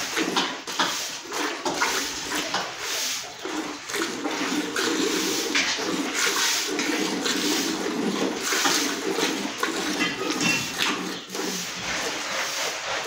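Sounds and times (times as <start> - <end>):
milk squirting into metal pail: 0.0 - 13.0.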